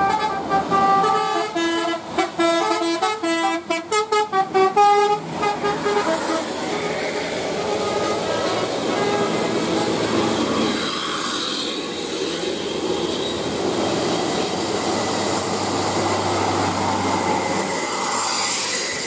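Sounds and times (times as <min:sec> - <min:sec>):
bus driving past: 0:00.0 - 0:19.0.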